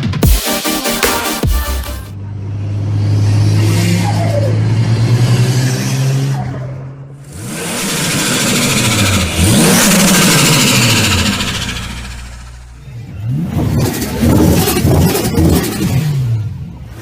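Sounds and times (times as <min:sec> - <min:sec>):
turbocharged car engine revving: 0:00.0 - 0:17.0.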